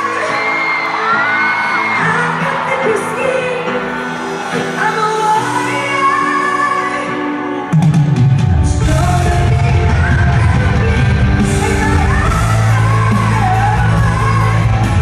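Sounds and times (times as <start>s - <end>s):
woman singing: 0.0s - 3.9s, 4.6s - 7.6s, 8.6s - 15.0s
live pop band with drums: 0.0s - 15.0s.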